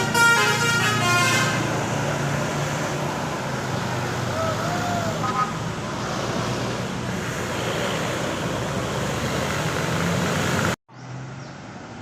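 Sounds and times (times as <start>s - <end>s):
road traffic passing at speed: 0.0s - 12.0s.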